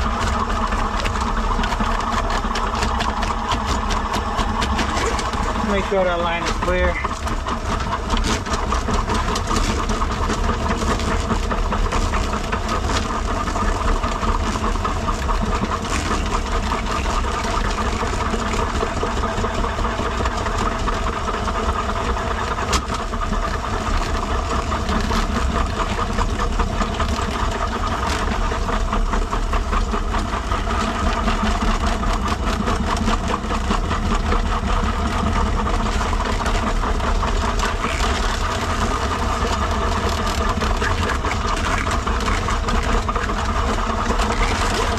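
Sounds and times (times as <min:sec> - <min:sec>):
motor drone: 0:00.0 - 0:44.9.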